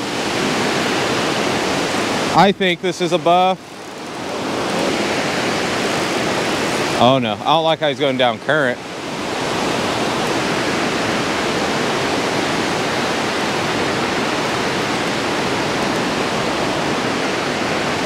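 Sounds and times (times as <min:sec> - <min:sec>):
water rushing through a spillway: 0:00.0 - 0:18.0.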